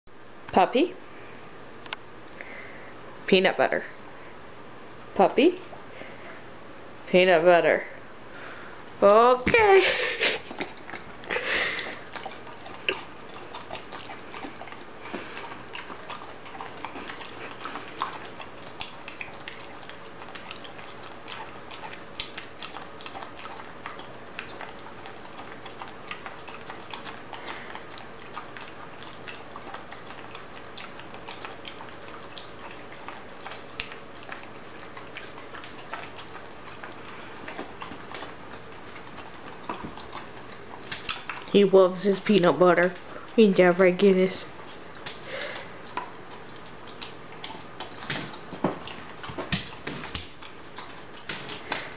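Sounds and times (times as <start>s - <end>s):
dog licking a metal spoon: 10.2s - 51.9s.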